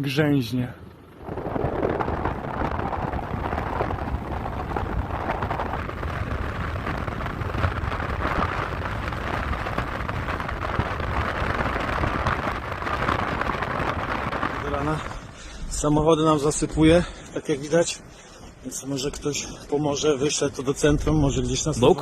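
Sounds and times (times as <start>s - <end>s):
blizzard wind buffeting microphone: 0.8s - 22.0s.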